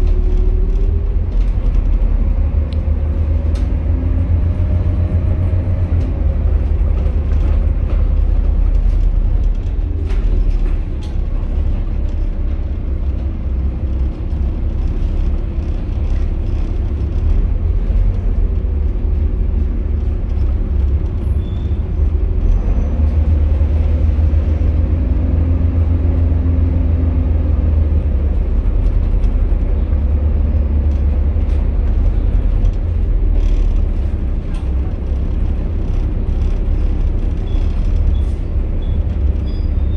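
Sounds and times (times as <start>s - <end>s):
bus body clicks and rattles: 0.0s - 39.9s
bus diesel engine drone: 0.0s - 39.9s.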